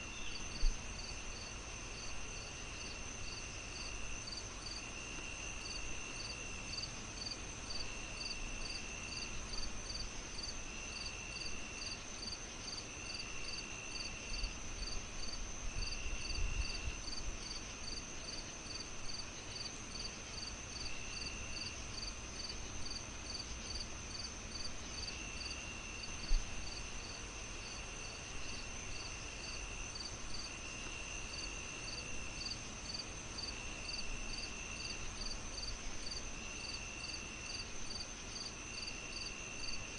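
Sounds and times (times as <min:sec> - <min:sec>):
crickets chirping: 0:00.0 - 0:39.9
lower insect trill: 0:00.0 - 0:39.9.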